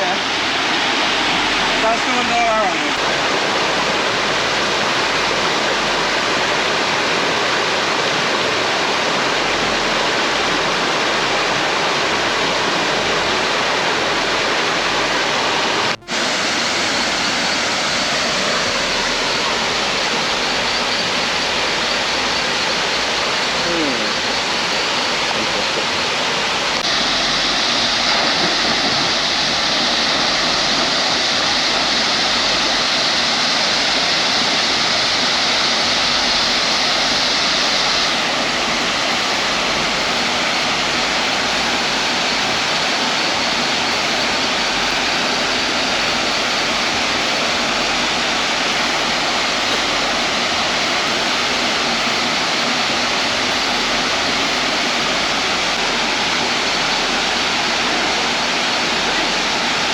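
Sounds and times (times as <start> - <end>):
waterfall splashing into pool: 0.0 - 59.9.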